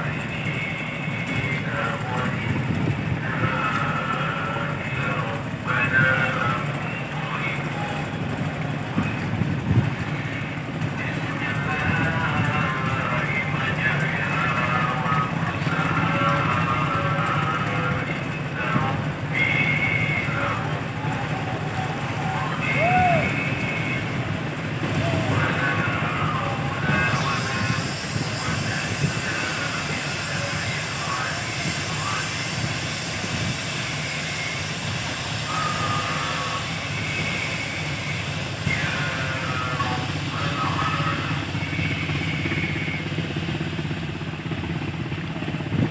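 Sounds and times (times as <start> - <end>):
indistinct voices: 0.0 - 45.9
ship engines rumbling: 0.0 - 45.9.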